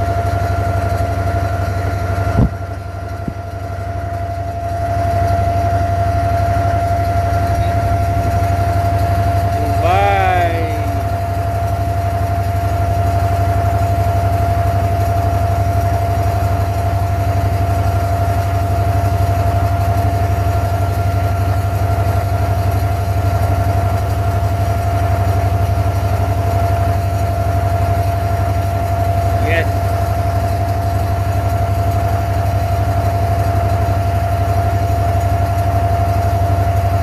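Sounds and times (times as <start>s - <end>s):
boat diesel engine droning: 0.0s - 37.0s
high engine whine: 0.0s - 37.0s.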